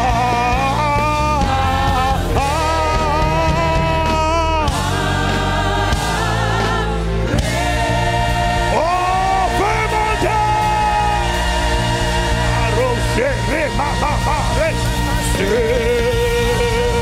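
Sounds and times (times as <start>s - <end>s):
low musical accompaniment: 0.0s - 17.0s
voices singing held notes: 0.0s - 17.0s.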